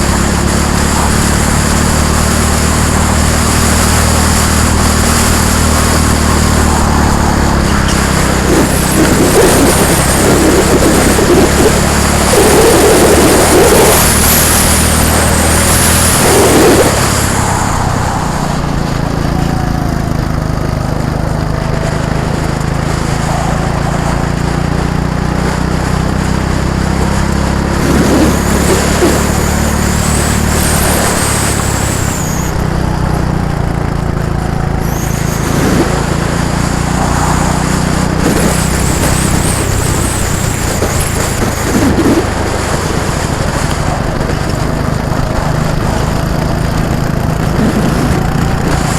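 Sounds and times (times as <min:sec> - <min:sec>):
go-kart engines whining: 0:00.0 - 0:48.9.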